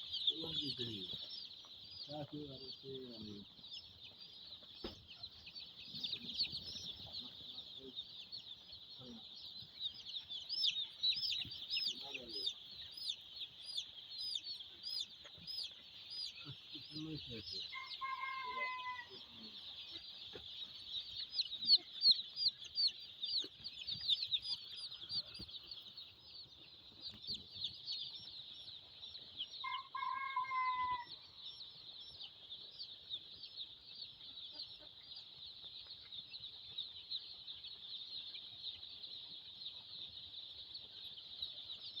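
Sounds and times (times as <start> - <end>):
chicks peeping: 0.0 - 42.0.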